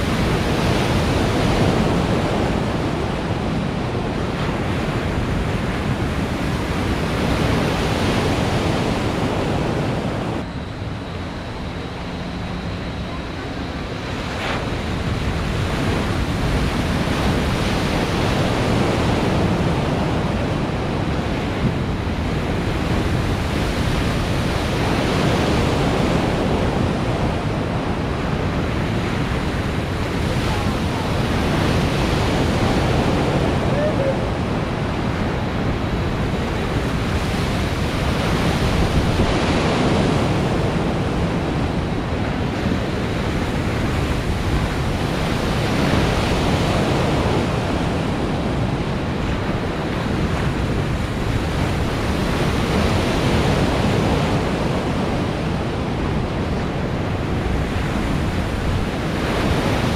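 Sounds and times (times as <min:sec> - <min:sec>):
breaking waves and churning water: 0:00.0 - 0:59.9.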